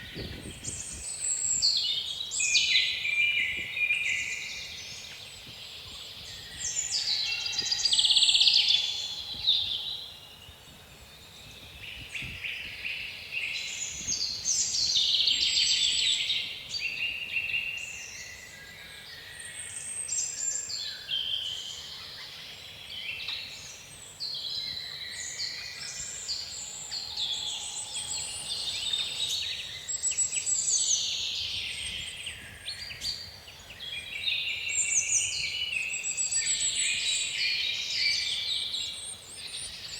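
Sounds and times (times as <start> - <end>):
faint low wind: 0.0 - 39.9
songbirds singing: 0.0 - 39.9.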